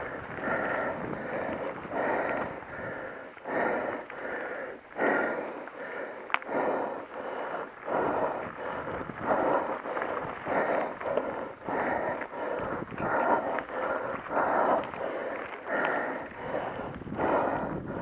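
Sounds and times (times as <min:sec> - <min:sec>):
person breathing hard: 0:00.0 - 0:18.0.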